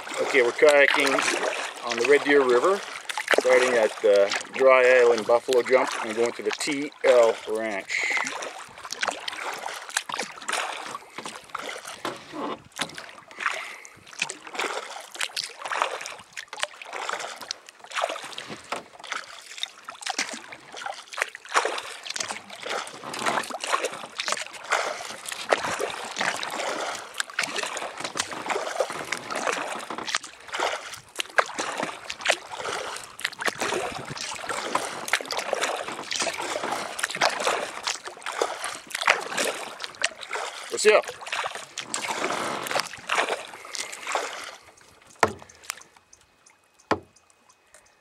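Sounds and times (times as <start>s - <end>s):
water splashing against kayak: 0.0s - 48.0s.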